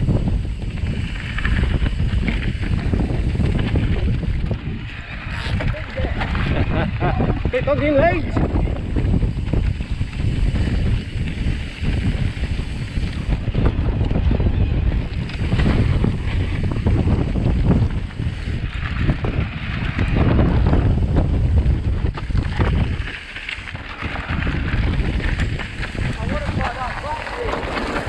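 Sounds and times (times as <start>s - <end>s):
bike rattling: 0.0s - 28.0s
wind buffeting microphone: 0.0s - 28.0s
tyres rumbling: 0.5s - 28.0s.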